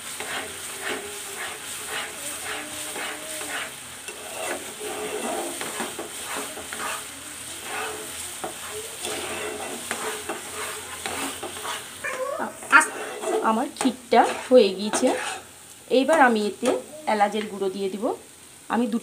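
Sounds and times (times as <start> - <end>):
metal spatula scraping a pan: 0.0 - 16.8.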